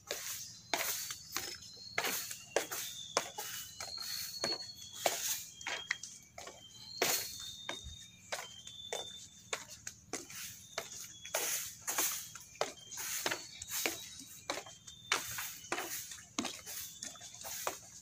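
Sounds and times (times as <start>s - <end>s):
footsteps on wooden planks: 0.0s - 18.0s
high whistled bird notes: 0.0s - 18.0s.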